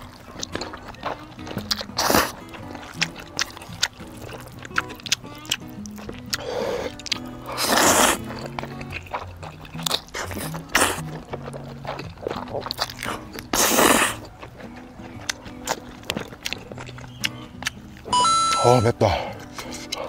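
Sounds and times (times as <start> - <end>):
person chewing noodles: 0.0 - 20.0.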